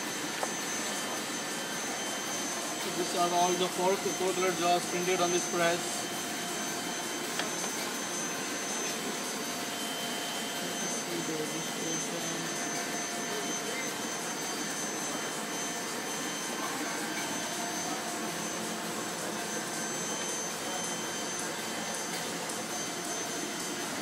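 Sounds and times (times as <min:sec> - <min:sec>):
faint high whine: 0:00.0 - 0:24.0
printing press machine whir: 0:00.0 - 0:24.0.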